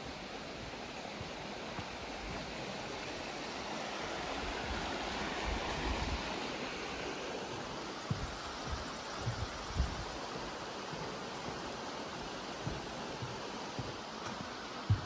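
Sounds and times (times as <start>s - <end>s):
creek rushing over rapids: 0.0s - 15.0s.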